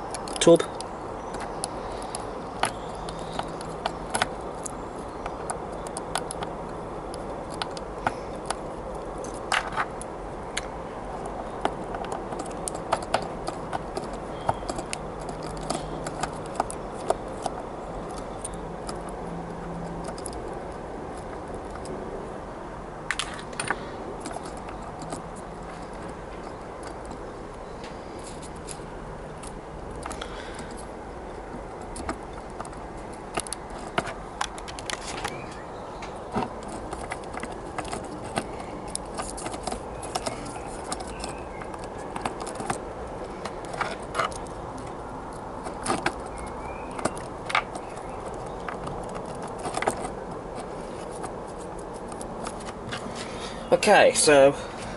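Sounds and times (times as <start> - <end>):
faint background noise: 0.0 - 54.9.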